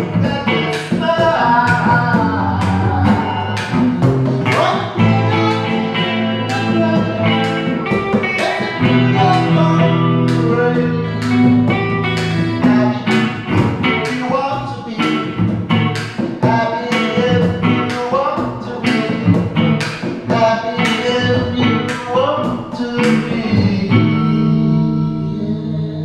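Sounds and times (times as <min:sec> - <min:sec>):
acoustic guitar strumming: 0:00.0 - 0:26.0
electric guitar playing: 0:00.0 - 0:26.0.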